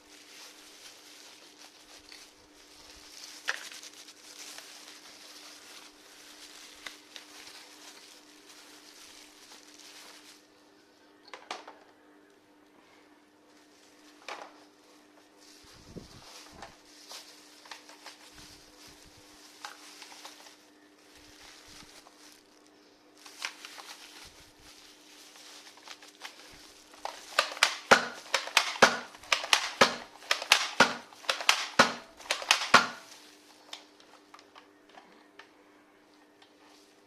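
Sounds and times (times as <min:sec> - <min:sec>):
rustling and crinkling handling: 0:00.0 - 0:10.8, 0:12.9 - 0:37.0.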